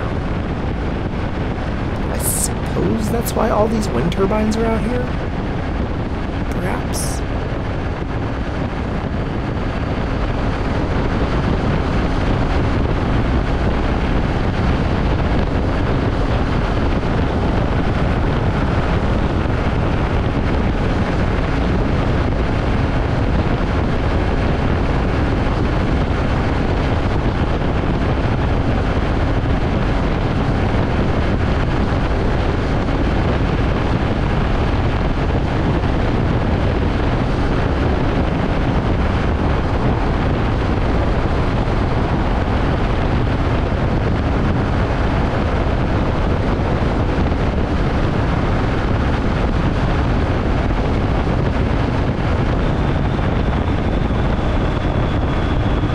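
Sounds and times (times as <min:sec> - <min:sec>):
wind buffeting microphone: 0:07.2 - 0:55.9.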